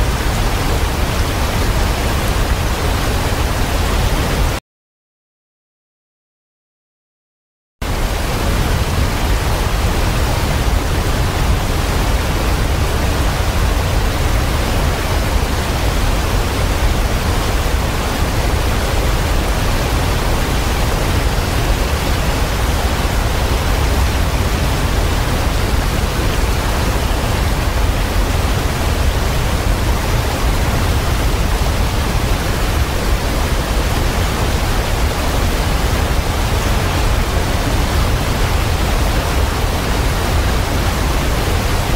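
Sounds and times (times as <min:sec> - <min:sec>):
waterfall rushing roar: 0:00.0 - 0:04.6, 0:07.8 - 0:41.9.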